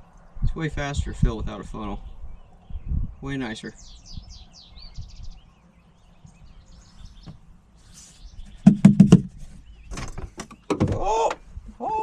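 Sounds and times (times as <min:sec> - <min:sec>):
small birds chirping: 0:00.0 - 0:11.3.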